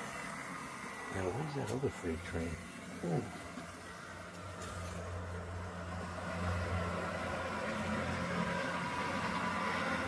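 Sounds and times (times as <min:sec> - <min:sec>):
model train humming: 0:00.0 - 0:10.0.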